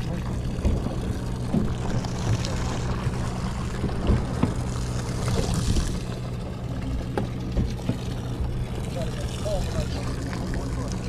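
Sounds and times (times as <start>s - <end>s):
boat engine humming: 0.0s - 11.0s
water washing against hull: 0.0s - 11.0s.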